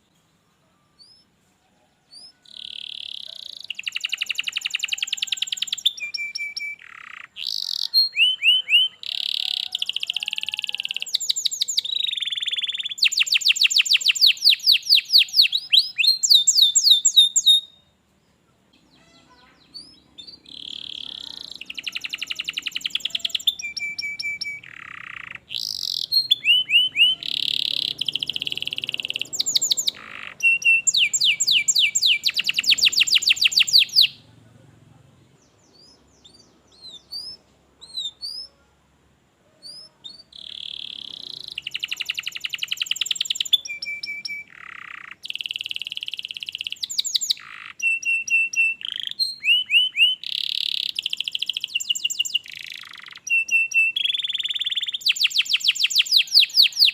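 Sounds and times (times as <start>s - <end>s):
canary singing: 0.0s - 34.4s, 35.3s - 38.8s, 39.5s - 56.9s.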